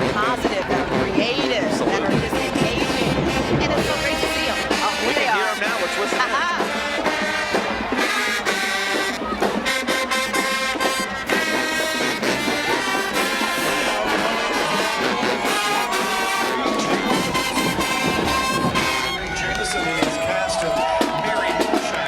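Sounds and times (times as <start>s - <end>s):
brass melody: 0.0s - 22.0s
driving drum beat: 0.0s - 22.0s.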